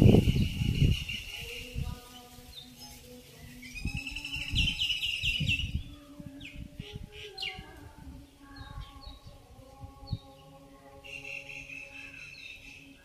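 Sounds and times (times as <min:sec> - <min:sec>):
downward-sweeping bird calls: 0:00.0 - 0:09.5, 0:10.1 - 0:13.0
birds chirping: 0:00.0 - 0:13.0.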